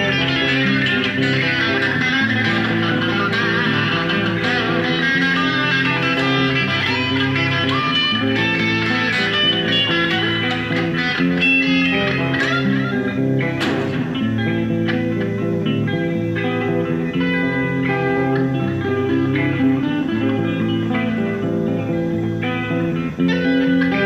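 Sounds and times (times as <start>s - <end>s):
electric guitar held notes: 0.0s - 24.0s.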